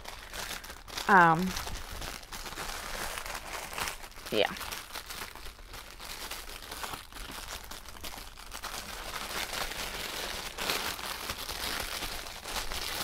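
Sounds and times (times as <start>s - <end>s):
bag crinkling and rustling: 0.0s - 13.0s.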